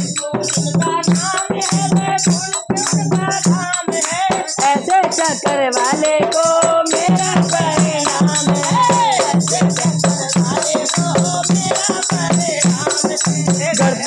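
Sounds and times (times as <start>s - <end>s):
boy and women singing: 0.0s - 14.0s
hand drum beat: 0.0s - 14.0s.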